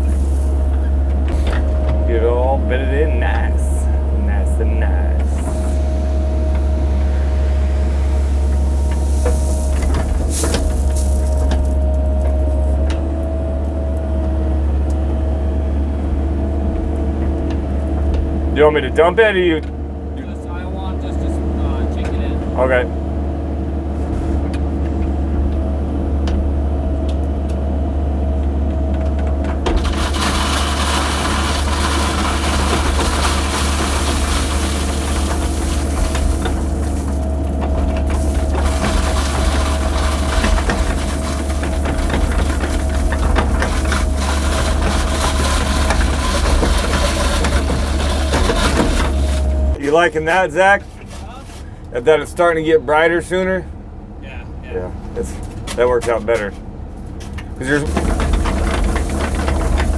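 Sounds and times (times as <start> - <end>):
excavator engine running: 0.0 - 51.0, 55.9 - 59.9.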